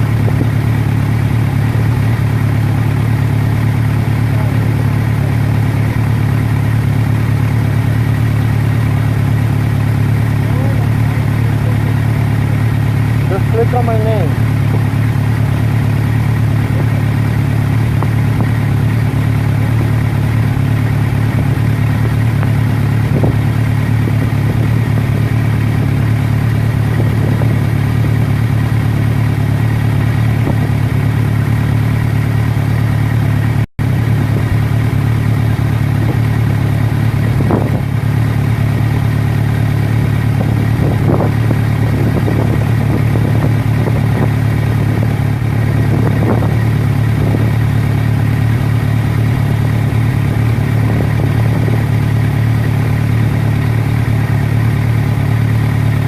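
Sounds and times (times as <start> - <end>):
steady engine-like hum: 0.0 - 56.0.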